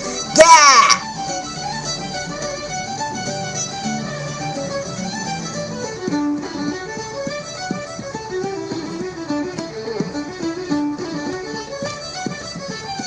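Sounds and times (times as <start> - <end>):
fiddle and guitar music: 0.0 - 13.0.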